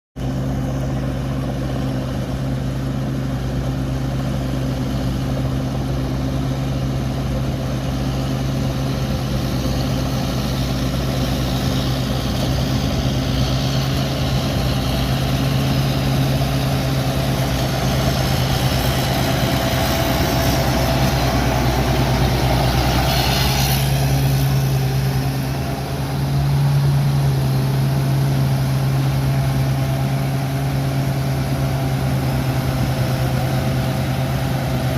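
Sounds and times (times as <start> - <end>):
combine harvester engine running: 0.2 - 34.9.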